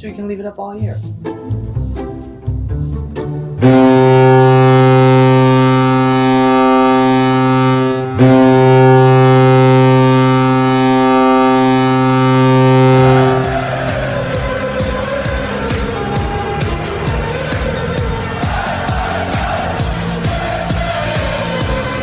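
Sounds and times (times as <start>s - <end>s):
goal horn blasts: 3.6s - 22.0s.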